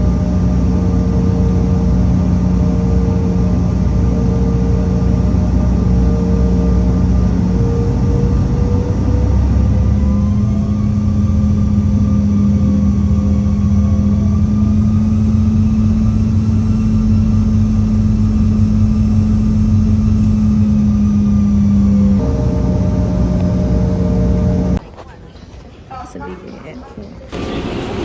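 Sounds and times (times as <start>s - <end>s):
jet engines from inside cabin: 0.0s - 24.8s, 27.3s - 28.0s.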